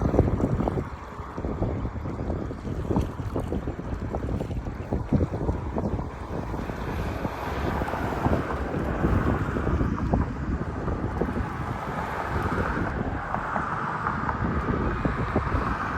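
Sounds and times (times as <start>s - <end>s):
boat motor droning: 0.0s - 15.9s
wind buffeting microphone: 0.0s - 15.9s.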